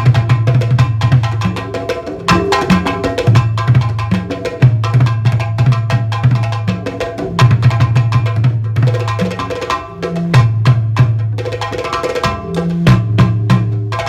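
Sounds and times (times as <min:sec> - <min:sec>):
hand drums fast rhythm: 0:00.0 - 0:14.0.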